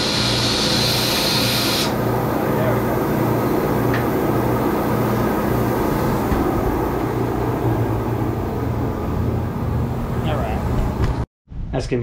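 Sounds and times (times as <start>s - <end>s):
air compressor humming: 0.0s - 11.3s.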